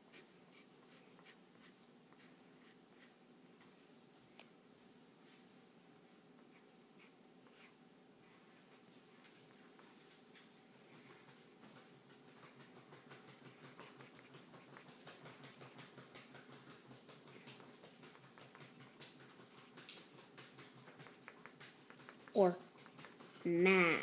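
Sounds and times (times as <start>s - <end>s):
pencil scratching on paper: 0.0s - 3.2s, 6.5s - 10.0s, 10.7s - 23.3s.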